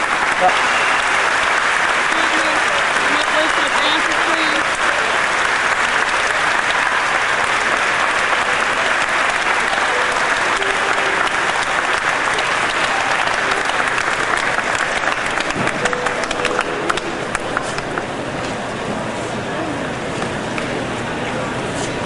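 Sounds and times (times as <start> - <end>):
crowd applauding: 0.0 - 18.8.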